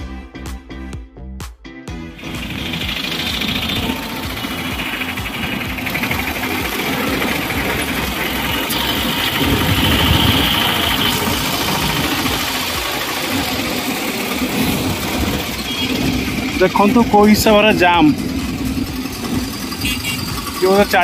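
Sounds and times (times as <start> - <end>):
surrounding traffic noise: 1.9 - 21.0
car engine idling: 2.1 - 21.0.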